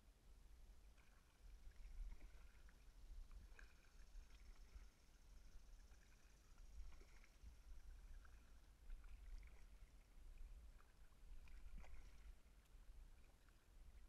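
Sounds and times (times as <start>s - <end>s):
faint kayak paddling: 0.0s - 14.0s.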